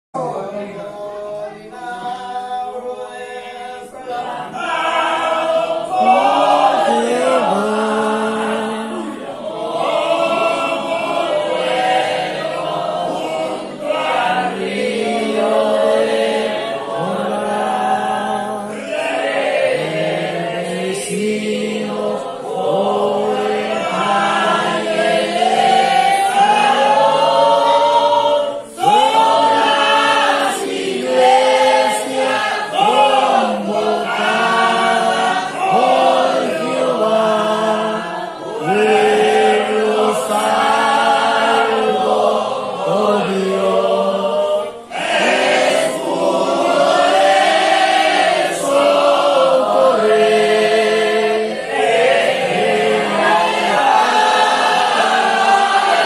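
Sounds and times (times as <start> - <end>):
congregation singing a hymn: 0.2 - 56.0.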